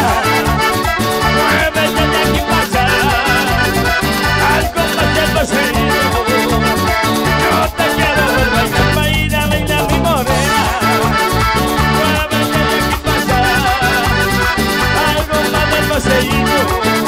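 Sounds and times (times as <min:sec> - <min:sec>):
strong bass line: 0:00.0 - 0:16.6
lead melody: 0:00.0 - 0:17.0
steady percussion beat: 0:00.0 - 0:17.0.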